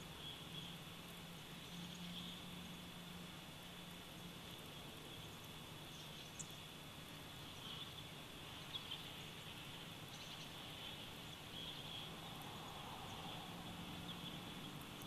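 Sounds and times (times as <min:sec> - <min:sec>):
soft bird chirps: 0:00.0 - 0:02.8, 0:04.0 - 0:15.0
steady background hiss: 0:00.0 - 0:15.0.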